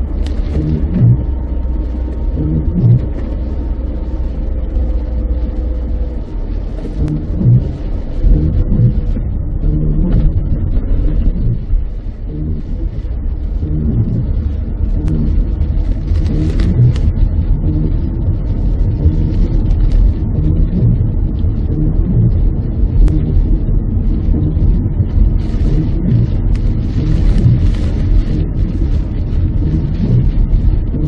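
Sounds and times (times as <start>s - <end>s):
car interior road rumble: 0.0s - 31.0s.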